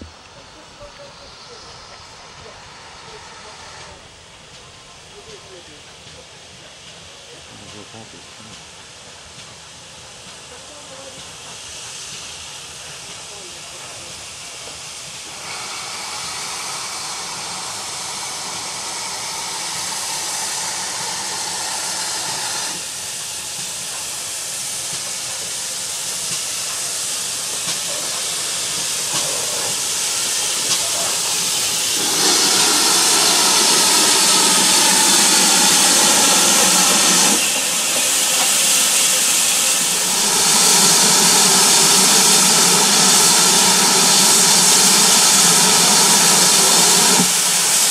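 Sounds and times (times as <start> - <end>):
steam locomotive hissing: 0.0 - 47.9.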